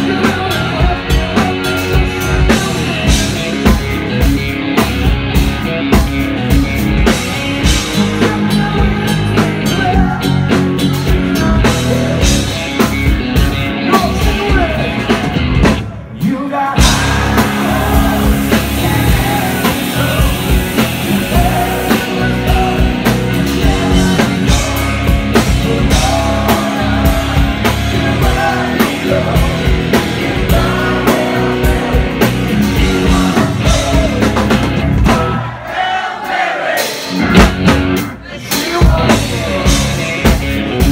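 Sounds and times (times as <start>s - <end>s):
man singing lead vocal: 0.0s - 4.2s, 7.0s - 37.3s, 38.1s - 40.9s
electric guitar: 0.0s - 35.5s, 37.0s - 40.9s
bass guitar: 0.0s - 35.7s, 36.9s - 40.9s
drums: 0.0s - 40.9s.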